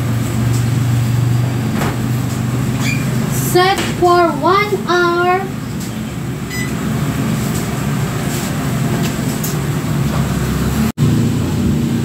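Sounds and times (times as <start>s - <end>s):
loud mechanical hum with hiss: 0.0s - 12.0s.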